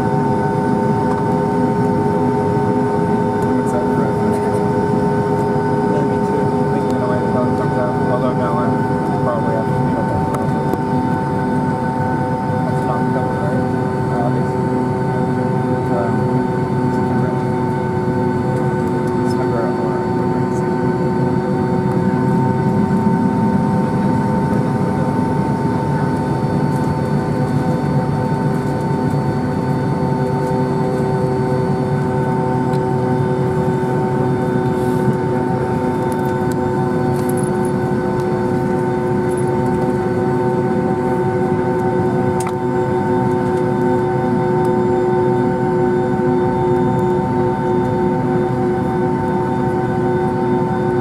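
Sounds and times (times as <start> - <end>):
jet engines whining: 0.0 - 51.0.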